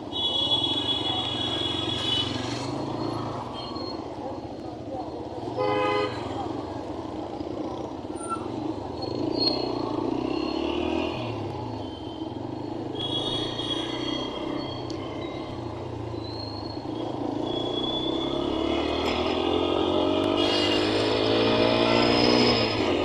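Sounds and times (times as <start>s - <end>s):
road noise: 0.0s - 23.0s.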